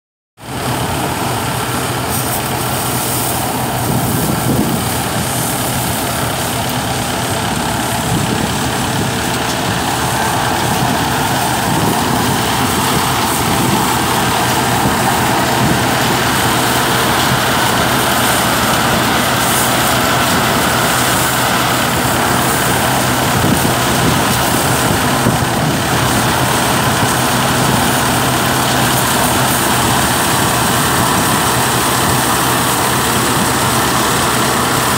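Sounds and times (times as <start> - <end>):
threshing drum and blower whirring: 0.4 - 34.9
tractor diesel engine hum: 0.4 - 34.9.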